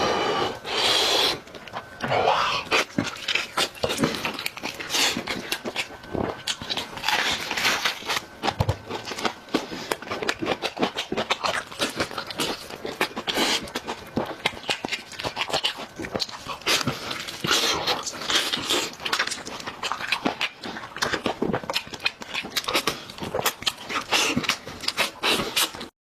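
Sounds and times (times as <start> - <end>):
chewing and lip-smacking: 1.4 - 25.9.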